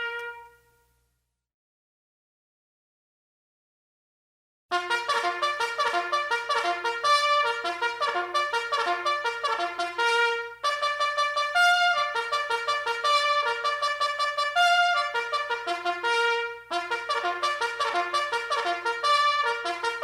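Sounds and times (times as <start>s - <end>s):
cornet playing melody: 0.0s - 0.8s, 4.7s - 20.0s.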